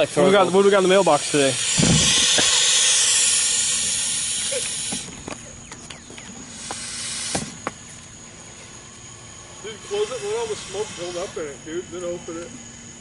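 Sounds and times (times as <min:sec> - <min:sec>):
smoke bomb hissing: 0:00.0 - 0:05.5, 0:06.3 - 0:12.2.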